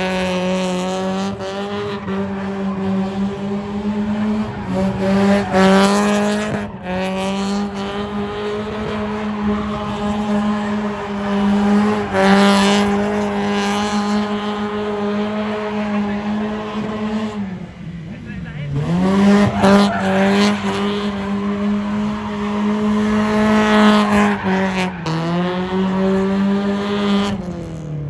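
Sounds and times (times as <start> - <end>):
car engine revving high: 0.0 - 28.0.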